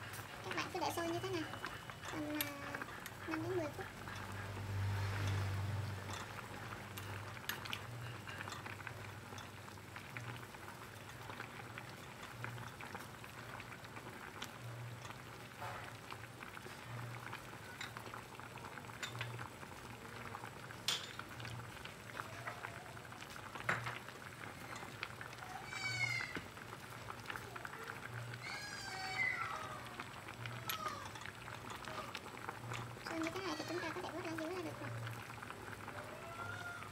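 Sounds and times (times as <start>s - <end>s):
water bubbling at a boil: 0.0s - 36.9s.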